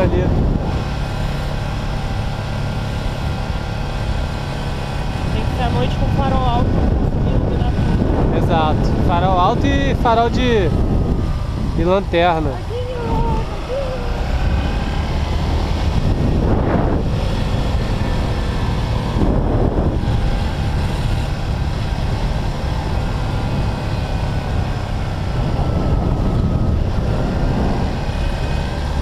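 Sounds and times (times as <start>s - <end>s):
motorcycle engine running: 0.0s - 29.0s
wind on microphone: 0.0s - 29.0s.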